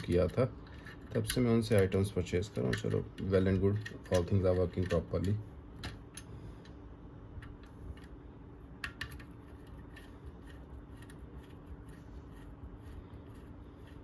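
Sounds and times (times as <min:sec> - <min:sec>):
screwdriver clicks and scrapes on metal: 0:00.0 - 0:06.3, 0:08.8 - 0:14.0
steady low hum: 0:00.0 - 0:14.0.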